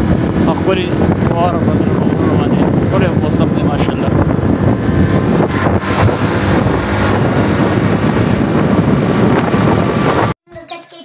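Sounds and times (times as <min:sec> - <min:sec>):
motorcycle engine running: 0:00.0 - 0:10.4
wind buffeting microphone: 0:00.0 - 0:10.4.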